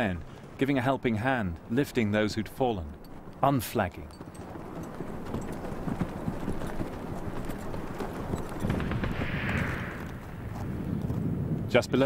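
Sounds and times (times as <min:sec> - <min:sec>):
horse hooves clip-clopping on stones: 0:00.0 - 0:11.3.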